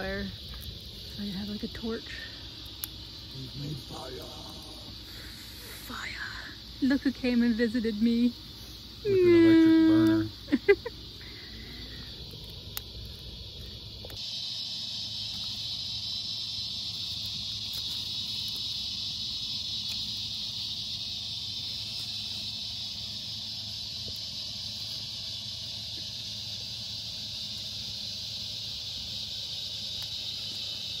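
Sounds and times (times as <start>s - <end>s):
campfire pops: 0.0s - 6.2s, 9.3s - 31.0s
insect chorus drone: 0.0s - 31.0s.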